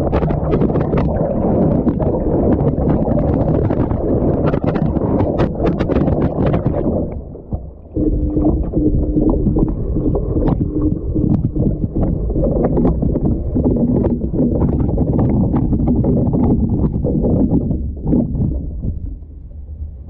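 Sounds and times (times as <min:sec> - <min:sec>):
water churning in washing machine: 0:00.0 - 0:19.2
steady machine hum: 0:00.0 - 0:20.0.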